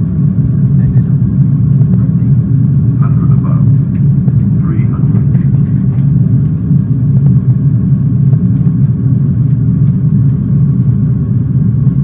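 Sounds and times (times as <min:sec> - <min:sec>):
cockpit noise low rumble: 0:00.0 - 0:12.0.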